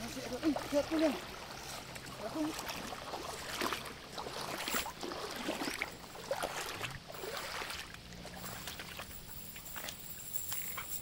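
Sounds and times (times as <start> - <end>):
feet splashing through shallow water: 0.0 - 11.0.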